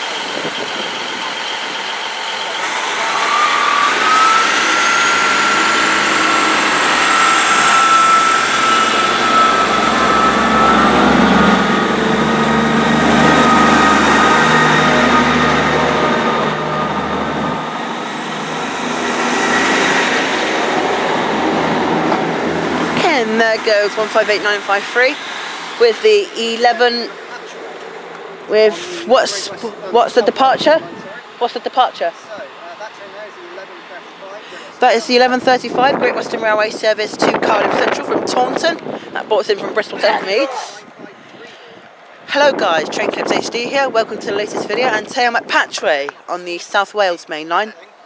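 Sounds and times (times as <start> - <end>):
steady high whine: 0.0 - 46.7
diesel train engine rumbling: 0.0 - 48.0
wheel-on-rail noise: 0.0 - 48.0.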